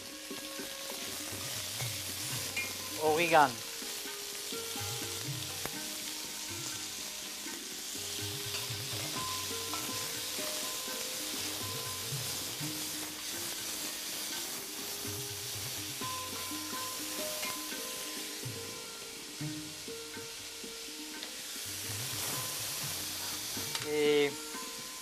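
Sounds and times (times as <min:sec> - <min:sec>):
peppers sizzling in oil: 0:00.0 - 0:25.0
spatula stirring in a pan: 0:03.6 - 0:19.9, 0:21.2 - 0:25.0.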